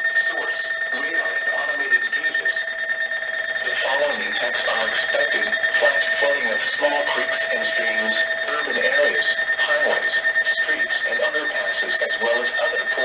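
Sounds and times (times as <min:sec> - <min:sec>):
radio voice: 0:00.2 - 0:02.6, 0:03.6 - 0:13.0.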